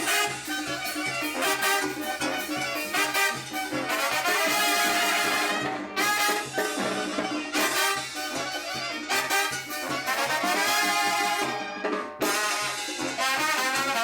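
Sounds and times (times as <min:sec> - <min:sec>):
brass dance music with bass beat: 0:00.0 - 0:14.0.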